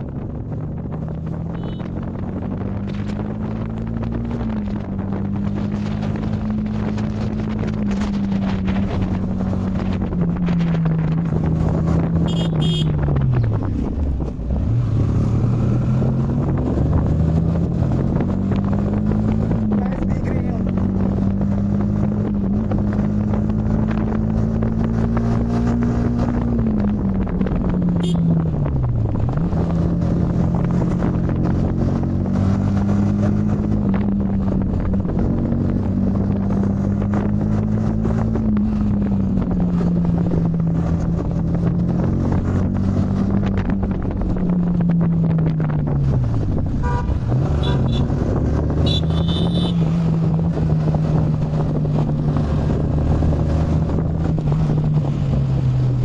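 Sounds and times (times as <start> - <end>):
motorcycle engine running: 0.0 - 14.4, 16.0 - 56.0.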